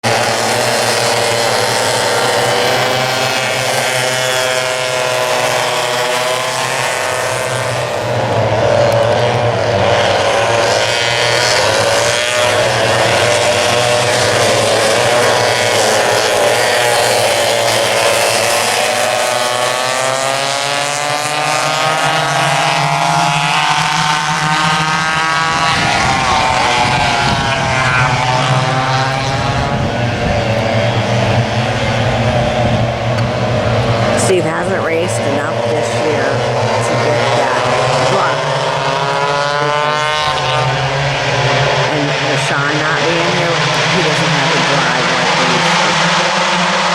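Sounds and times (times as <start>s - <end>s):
go-kart engines racing: 0.0s - 46.9s.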